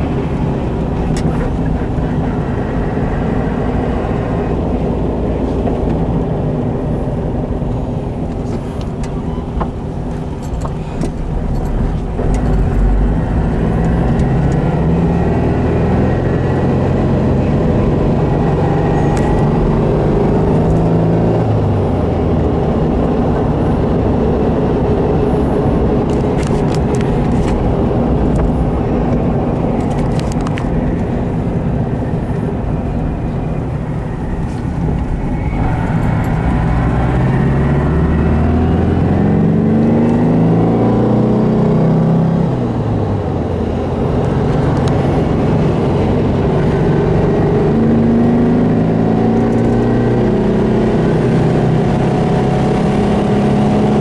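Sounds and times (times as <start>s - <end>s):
car engine running: 0.0s - 54.0s
road and wind noise: 0.0s - 54.0s.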